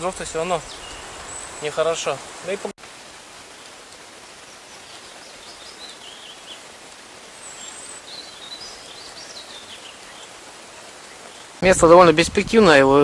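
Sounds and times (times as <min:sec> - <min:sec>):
small birds chirping: 0:00.0 - 0:11.6
rustling outdoor hiss: 0:00.0 - 0:13.0.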